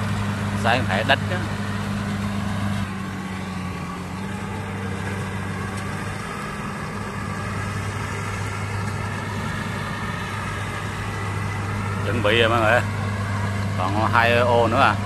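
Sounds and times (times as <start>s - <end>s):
combine harvester engine humming: 0.0s - 15.0s.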